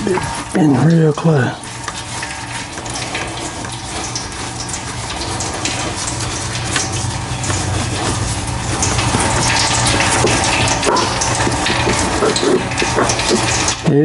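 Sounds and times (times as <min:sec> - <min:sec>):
low steady hum: 0:00.0 - 0:14.0
oil pouring in a stream: 0:00.0 - 0:14.0.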